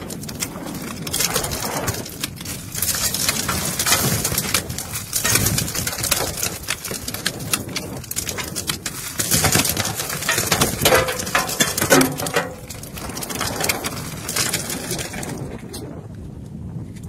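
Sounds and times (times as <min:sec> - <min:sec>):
loose stone clattering down: 0:00.0 - 0:15.9.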